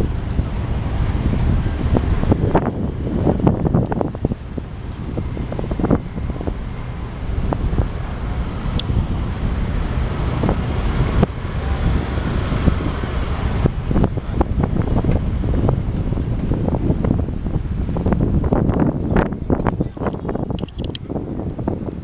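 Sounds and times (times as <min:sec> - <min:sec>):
low harbour rumble: 0:00.0 - 0:22.0
wind buffeting microphone: 0:00.0 - 0:22.0.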